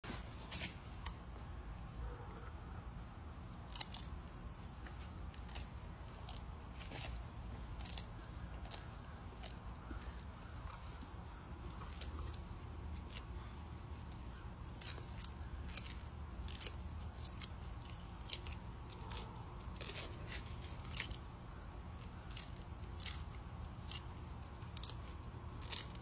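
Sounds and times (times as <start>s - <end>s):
tortoises chewing cactus: 0.4s - 26.0s.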